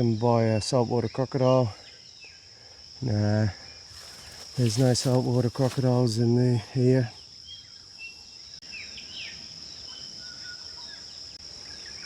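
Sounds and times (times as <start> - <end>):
birds chirping: 0.0 - 12.0
high-pitched insect drone: 0.0 - 12.0.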